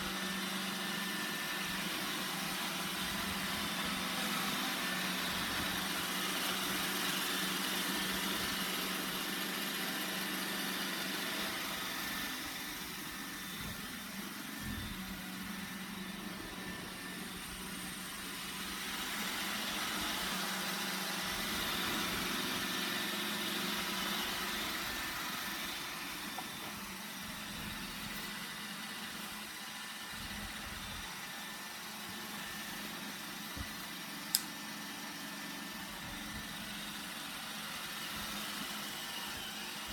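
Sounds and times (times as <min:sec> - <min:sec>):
robot vacuum whirring hum: 0:00.0 - 0:39.9.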